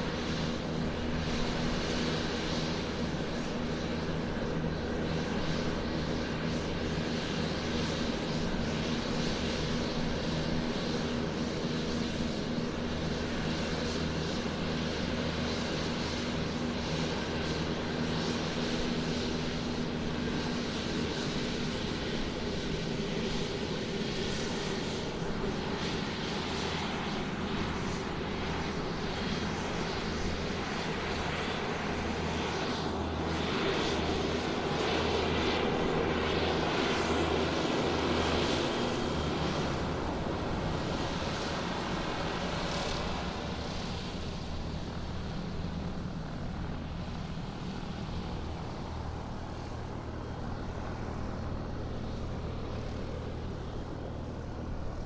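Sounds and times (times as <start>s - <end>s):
airplane engine taxiing: 0.0s - 55.0s.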